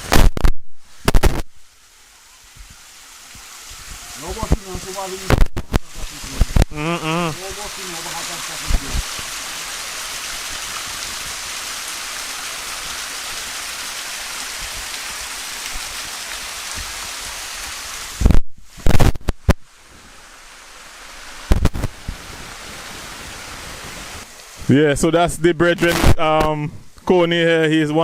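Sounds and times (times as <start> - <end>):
rushing water hiss: 0.0 - 28.0.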